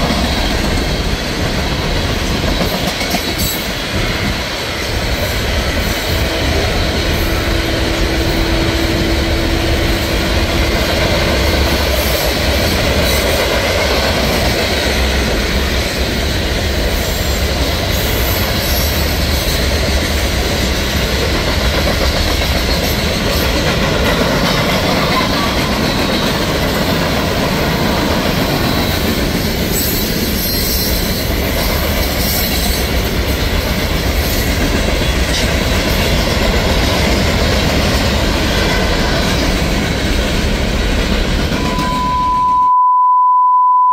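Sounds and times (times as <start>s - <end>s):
freight cars rumbling on rails: 0.0s - 42.2s.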